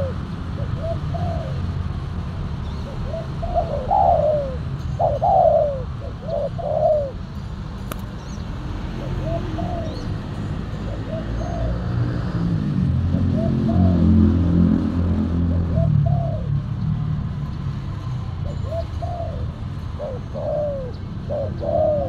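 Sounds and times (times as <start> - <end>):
doves cooing: 0.0 - 7.4, 8.8 - 17.0, 18.2 - 22.0.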